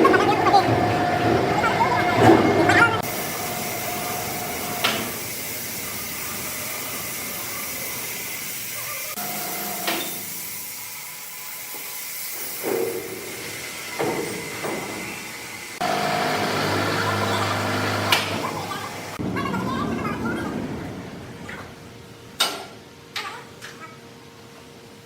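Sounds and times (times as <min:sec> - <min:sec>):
factory machinery hissing: 0:00.0 - 0:22.3.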